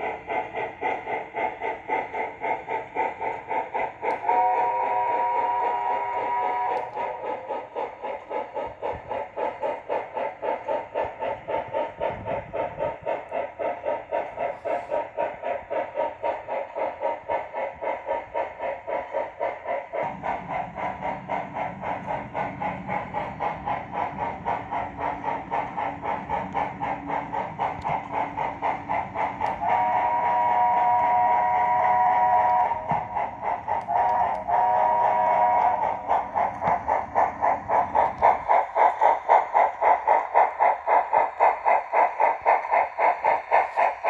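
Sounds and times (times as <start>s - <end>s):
digital steam chuffing: 0.0s - 44.0s.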